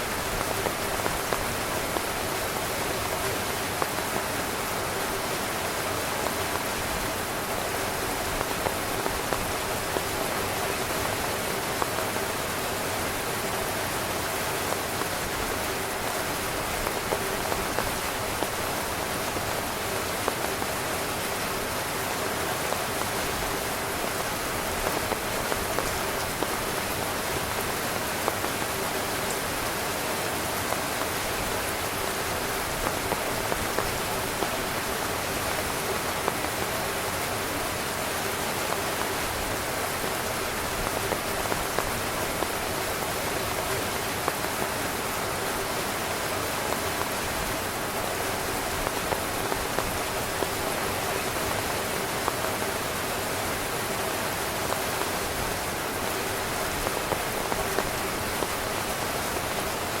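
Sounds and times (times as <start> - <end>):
heavy rain on tent fabric: 0.0 - 60.0.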